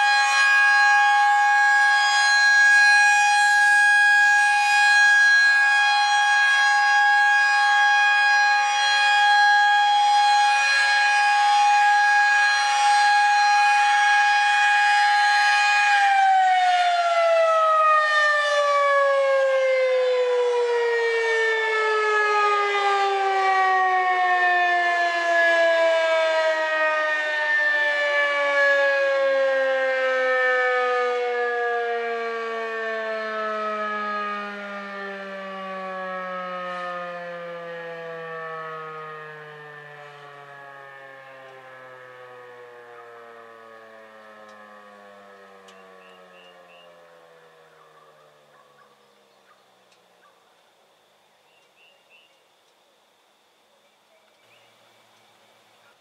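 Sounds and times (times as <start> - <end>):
warning siren winding down: 0.0 - 51.1.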